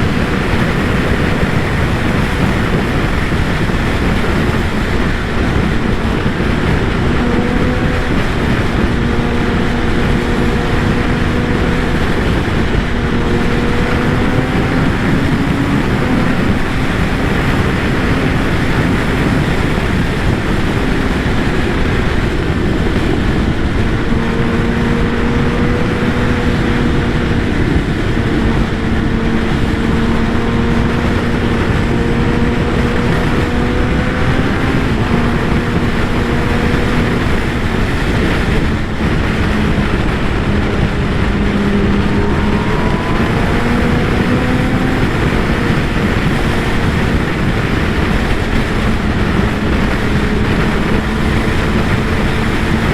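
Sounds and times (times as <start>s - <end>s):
motorcycle engine running: 0.0s - 52.9s
wind on microphone: 0.0s - 52.9s.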